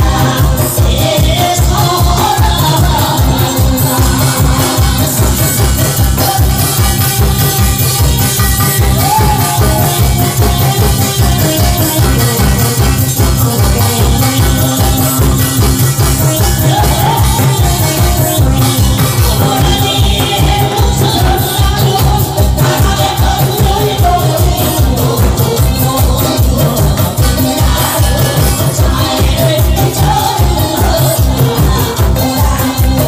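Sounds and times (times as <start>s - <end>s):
fast drum beat: 0.0s - 33.0s.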